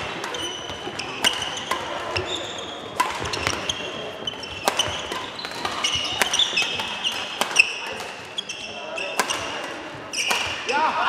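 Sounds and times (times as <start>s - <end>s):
sports shoes squeaking on floor: 0.0s - 10.6s
badminton rackets striking shuttlecocks: 0.0s - 10.8s.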